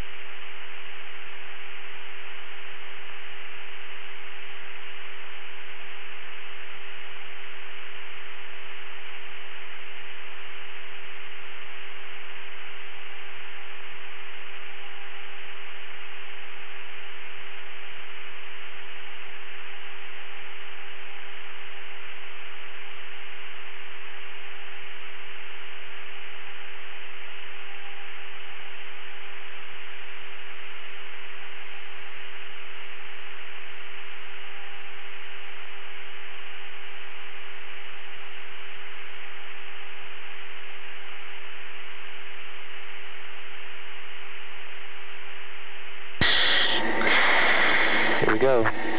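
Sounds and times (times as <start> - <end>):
radio static hiss: 0.0 - 48.9
steady hum tone: 0.0 - 48.9.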